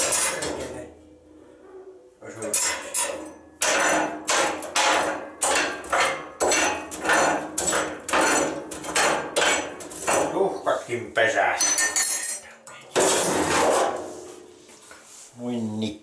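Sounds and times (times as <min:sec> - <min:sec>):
metal scraping on metal: 0:00.0 - 0:10.9, 0:11.6 - 0:14.5.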